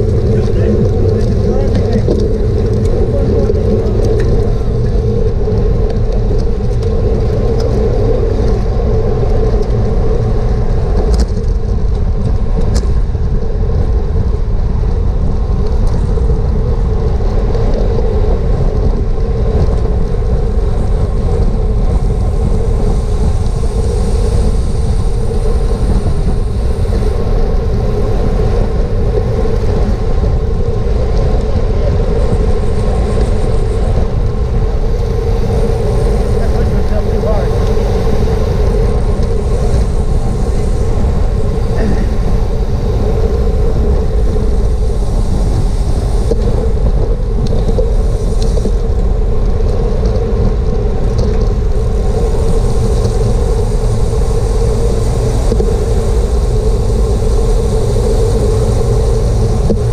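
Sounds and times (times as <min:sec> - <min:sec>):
constant hum: 0:00.0 - 0:59.9
wind rumbling over microphone: 0:00.0 - 0:59.9.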